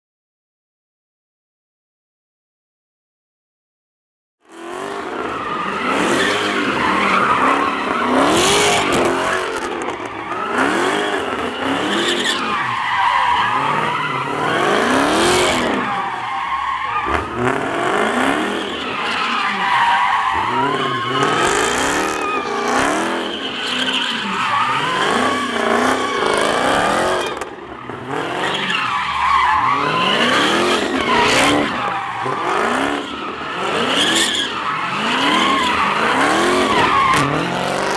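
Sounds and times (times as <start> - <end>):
car engine revving: 4.5 - 37.9
tyres squealing: 5.2 - 37.9.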